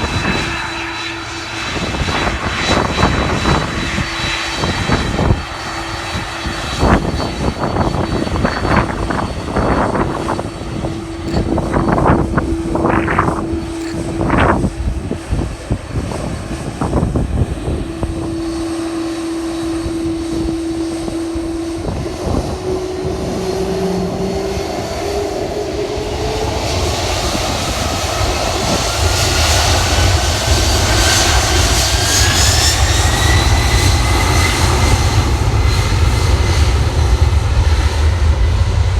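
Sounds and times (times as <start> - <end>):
deep engine rumble: 0.0 - 38.9
gusts of noise: 0.0 - 38.9
jet engines spooling up: 0.0 - 38.9.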